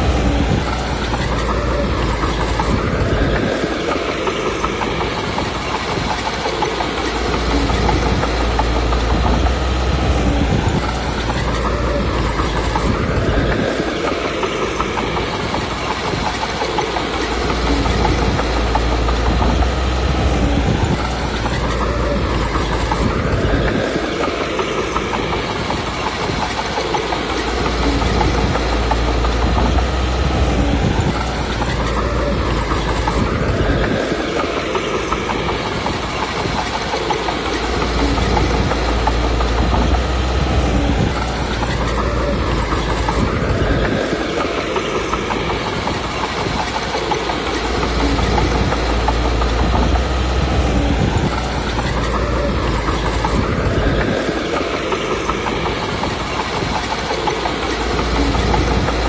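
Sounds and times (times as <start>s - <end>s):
bulldozer diesel engine under load: 0.0s - 59.0s
steel tracks clanking: 0.0s - 59.0s.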